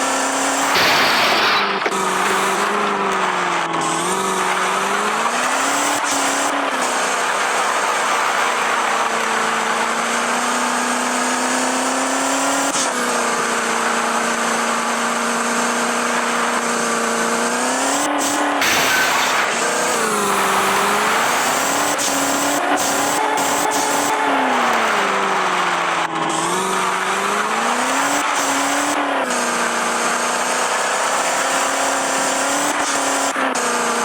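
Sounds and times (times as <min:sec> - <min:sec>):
van engine revving: 0:00.0 - 0:34.0.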